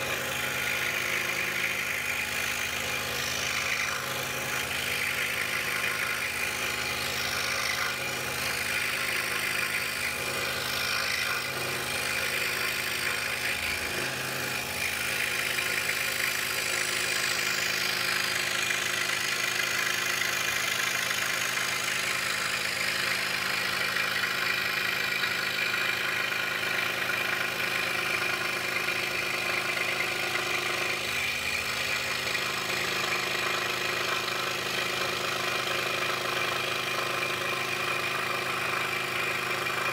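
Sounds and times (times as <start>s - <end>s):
scroll saw cutting wood: 0.0s - 39.9s.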